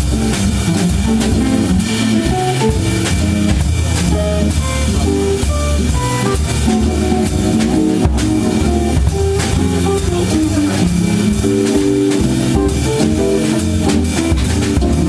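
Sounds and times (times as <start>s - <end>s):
drum kit playing: 0.0s - 15.0s
electric jazz guitar: 0.0s - 15.0s
low bass line: 0.0s - 15.0s
organ playing: 0.0s - 15.0s.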